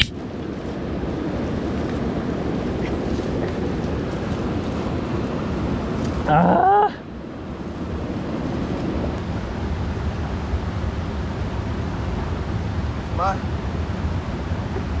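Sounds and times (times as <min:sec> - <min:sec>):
mountain stream rushing: 0:00.0 - 0:15.0
wind on microphone: 0:00.0 - 0:15.0.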